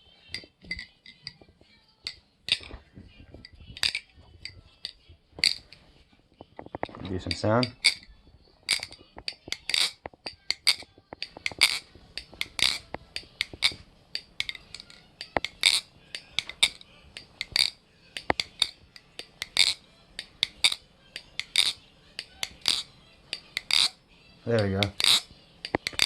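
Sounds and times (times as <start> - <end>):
butterfly knife clacking: 3.4 - 5.8, 6.7 - 24.0, 24.6 - 26.0.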